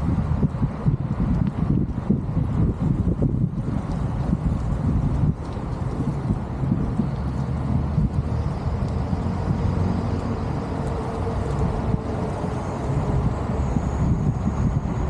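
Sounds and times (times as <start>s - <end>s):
bike tyre road noise: 0.0s - 15.0s
wind buffeting microphone: 0.0s - 15.0s.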